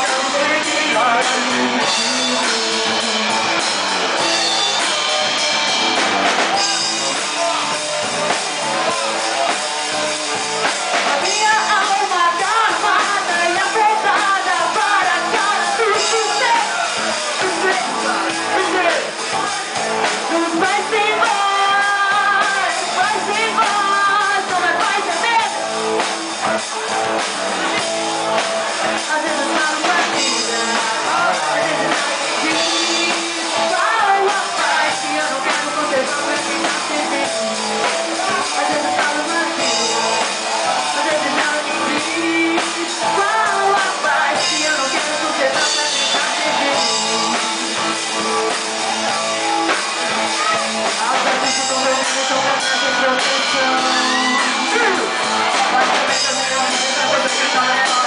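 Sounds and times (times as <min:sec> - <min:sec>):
live band playing: 0:00.0 - 0:58.0.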